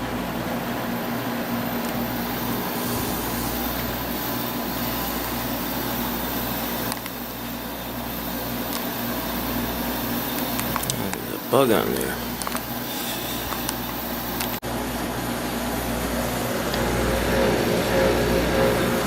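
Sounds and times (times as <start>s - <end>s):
air conditioner fan blowing: 0.0s - 19.0s
compressor humming: 0.0s - 19.0s.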